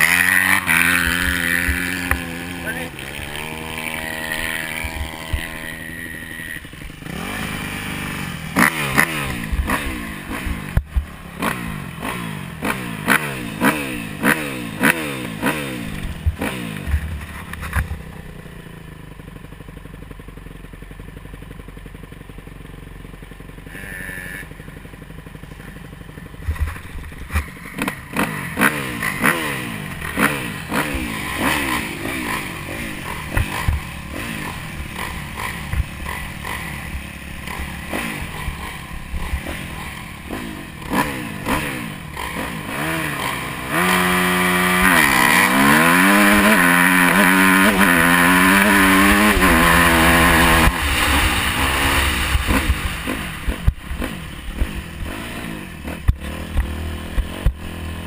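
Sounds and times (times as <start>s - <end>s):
dirt bike engine revving: 0.0s - 19.0s, 23.1s - 58.0s.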